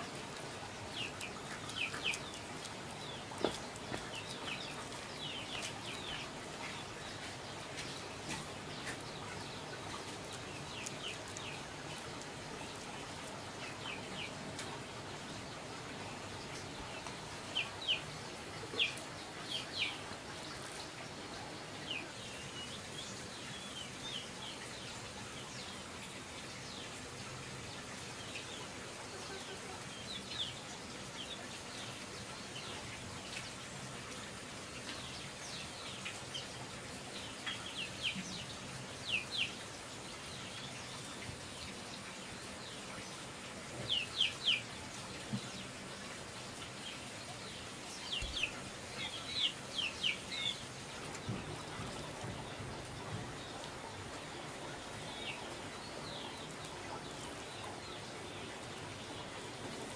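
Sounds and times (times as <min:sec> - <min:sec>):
birds chirping: 0:00.0 - 0:33.6, 0:34.8 - 0:59.9
background hiss: 0:00.0 - 0:59.9.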